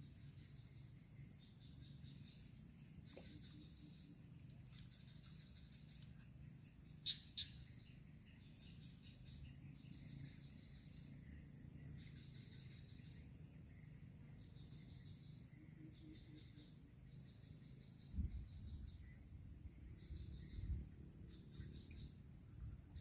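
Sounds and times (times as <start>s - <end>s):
insect chorus buzzing and chirping: 0.0s - 23.0s.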